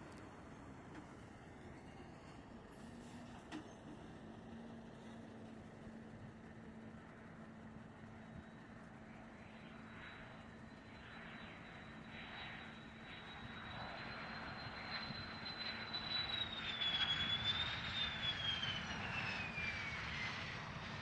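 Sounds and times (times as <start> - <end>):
jet engine roar with whine: 0.0 - 21.0.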